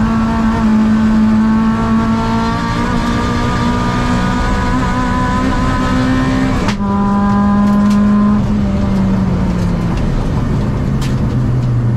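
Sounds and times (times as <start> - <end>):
car engine accelerating: 0.0 - 11.9
road and wind noise: 0.0 - 11.9.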